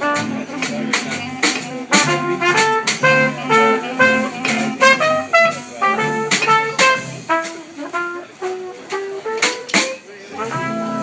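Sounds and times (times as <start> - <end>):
clarinet: 0.0 - 11.0
drums and cymbals: 0.0 - 11.0
trumpet: 0.0 - 11.0
upright double bass: 0.0 - 11.0.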